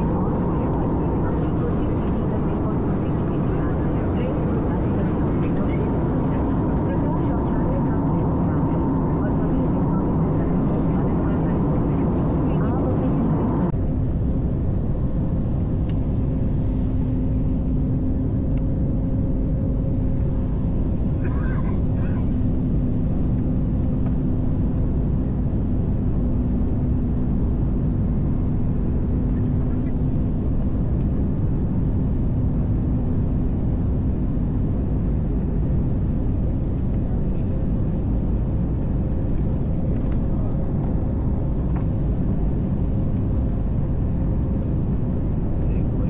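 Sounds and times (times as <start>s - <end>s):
airliner cabin rumble: 0.0s - 46.0s
steady hum: 0.0s - 46.0s.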